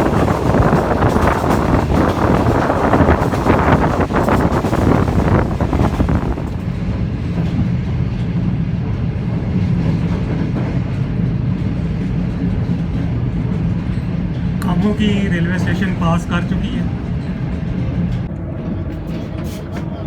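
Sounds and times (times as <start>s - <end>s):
train air and rail rush: 0.0s - 20.0s
train running rumble with hum: 0.0s - 20.0s.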